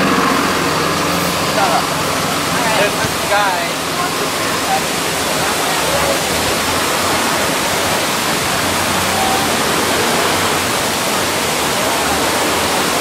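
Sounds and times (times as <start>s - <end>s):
loud steady hiss: 0.0s - 13.0s.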